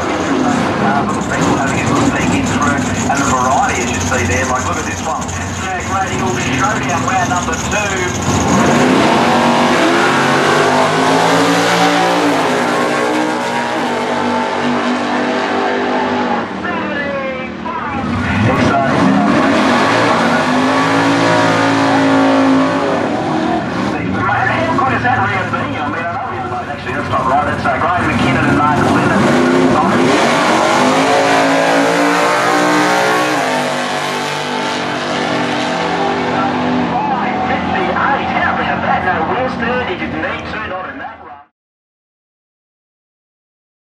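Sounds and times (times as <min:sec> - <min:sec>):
drag racing cars accelerating: 0:00.0 - 0:41.2.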